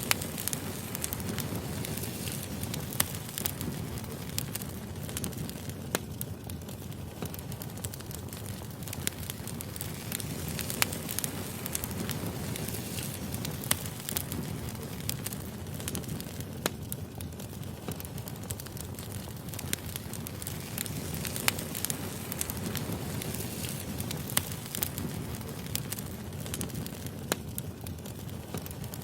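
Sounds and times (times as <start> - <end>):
firewood crackling and popping: 0.0 - 29.0
wood fire rumbling: 0.0 - 29.0.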